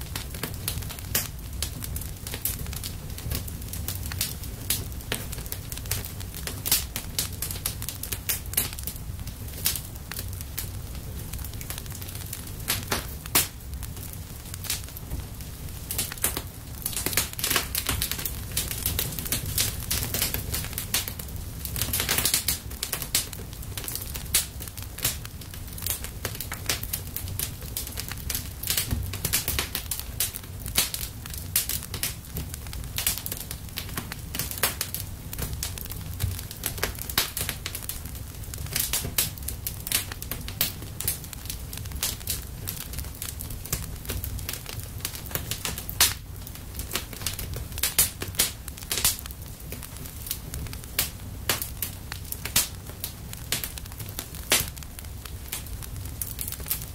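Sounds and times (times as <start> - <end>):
fire crackling snaps and pops: 0.0 - 56.9
fire low rumble: 0.0 - 56.9.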